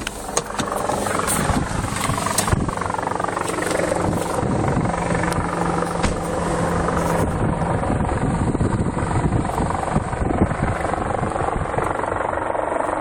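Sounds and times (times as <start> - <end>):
noisy rush: 0.0 - 12.4
low steady hum: 0.0 - 12.5
engine drone: 0.0 - 13.0.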